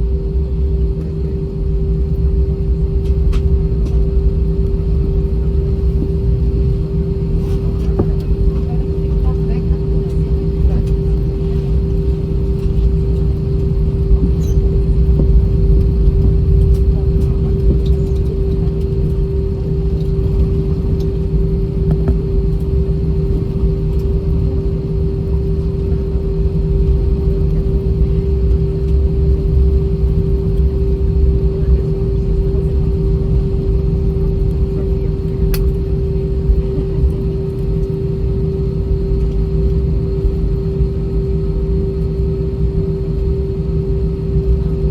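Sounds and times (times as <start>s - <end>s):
aircraft cabin drone: 0.0s - 44.9s.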